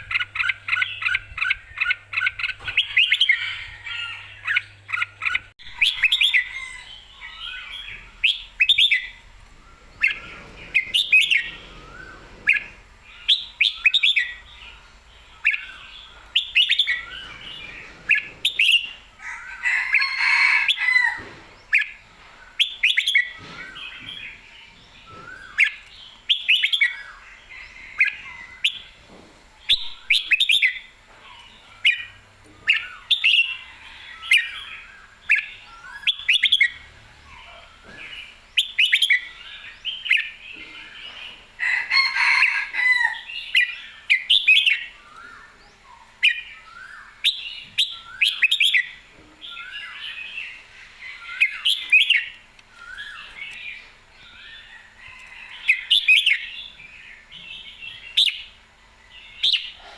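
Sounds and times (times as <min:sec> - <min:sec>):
bird singing warbled phrases: 0:00.0 - 0:20.9, 0:29.6 - 0:59.9.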